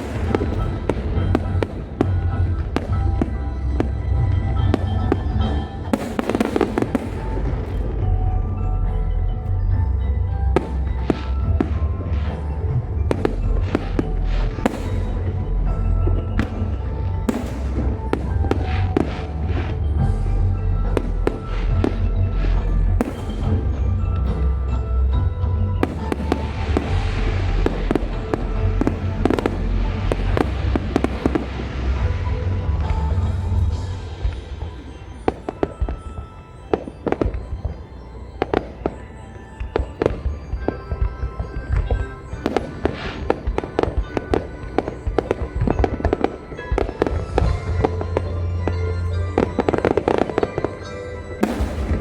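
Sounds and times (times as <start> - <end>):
fireworks cracking and popping: 0.0 - 8.1, 10.6 - 19.8, 25.8 - 52.0
rumble of fireworks booms: 0.0 - 50.7, 51.4 - 52.0
music playing: 0.0 - 52.0.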